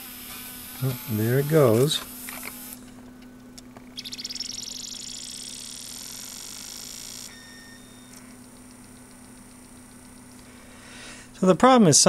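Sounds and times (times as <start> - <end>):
disc drive whirring: 0.0 - 10.6
faint electrical hum: 0.0 - 12.0.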